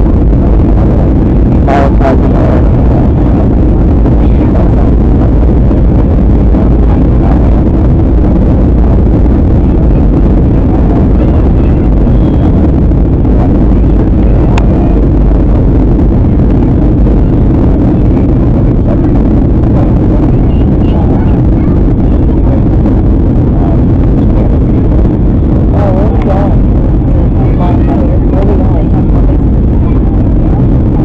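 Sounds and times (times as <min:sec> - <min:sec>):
airflow over fuselage: 0:00.0 - 0:31.0
jet engines roaring: 0:00.0 - 0:31.0.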